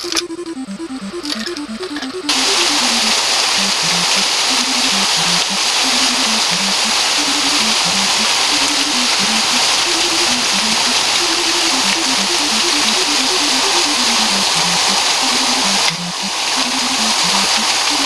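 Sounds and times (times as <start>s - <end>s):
background music simple melody: 0.0s - 18.0s
waterfall rushing: 2.3s - 18.0s.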